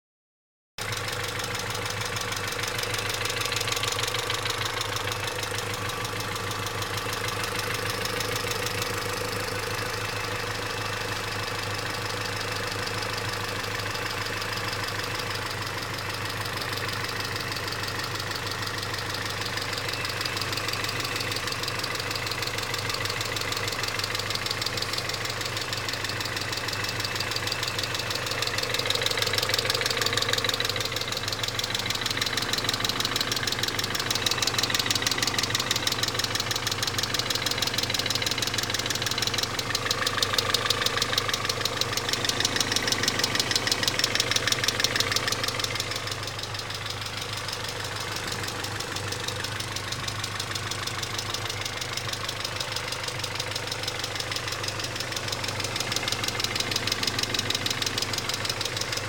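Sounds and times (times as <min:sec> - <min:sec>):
car engine idling: 0:00.8 - 0:59.0
rapid knocking inside engine: 0:00.8 - 0:59.0.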